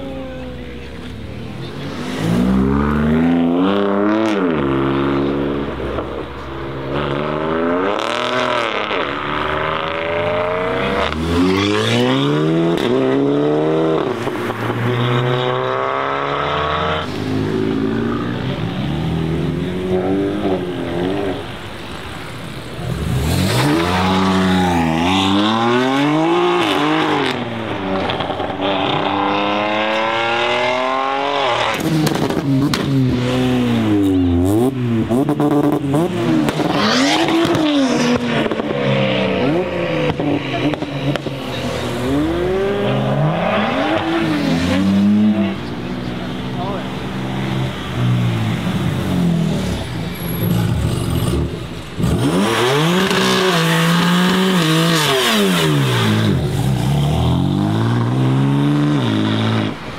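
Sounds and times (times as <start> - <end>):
car engines revving through gears: 0.9 - 59.9.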